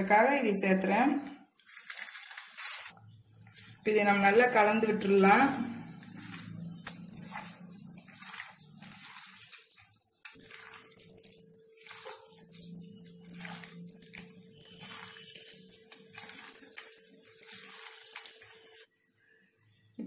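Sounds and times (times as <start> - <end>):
hand mixing wet paste in bowl: 1.8 - 18.9.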